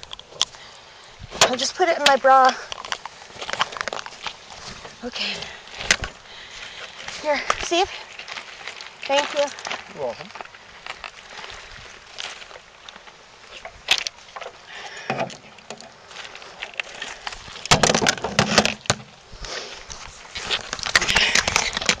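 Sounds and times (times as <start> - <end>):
footsteps on pebbles: 1.2 - 22.0.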